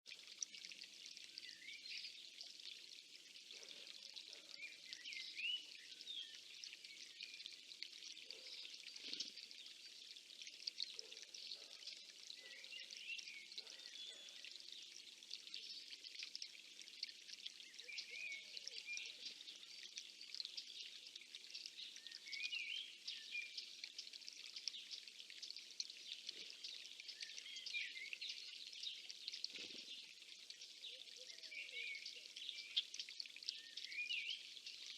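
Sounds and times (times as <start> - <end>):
light steady hiss: 0.1 - 34.9
small songbirds singing and chirping: 0.4 - 34.9.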